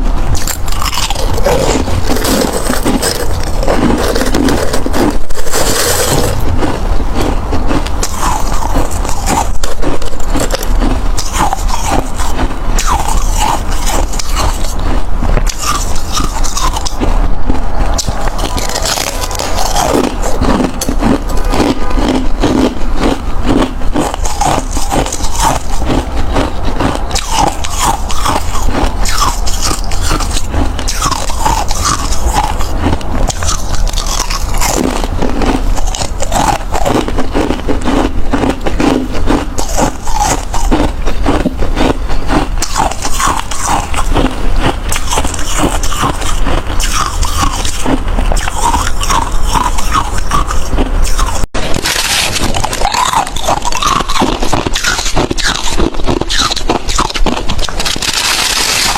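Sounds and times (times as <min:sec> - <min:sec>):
chewing crushed ice: 0:00.0 - 0:58.9.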